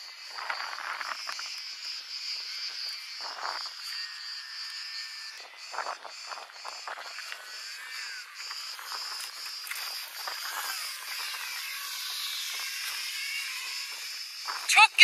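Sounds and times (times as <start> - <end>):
model plane motor whining: 0.0 - 14.7
insects chirping: 0.0 - 15.0.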